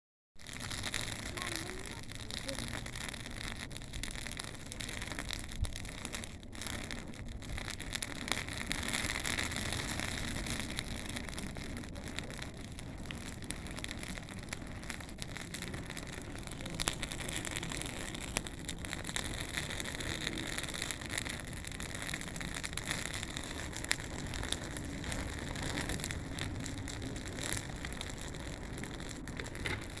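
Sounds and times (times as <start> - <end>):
bonfire crackling and popping: 0.4 - 30.0.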